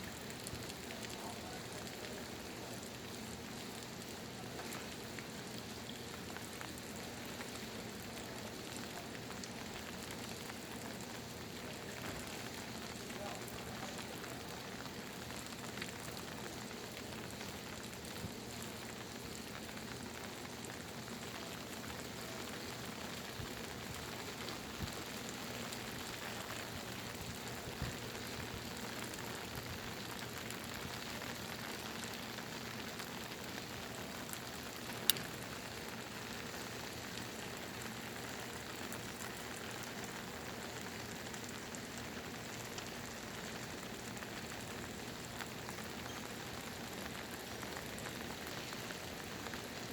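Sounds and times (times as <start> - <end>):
raindrops ticking: 0.0 - 49.9
steady rain hiss: 0.0 - 49.9.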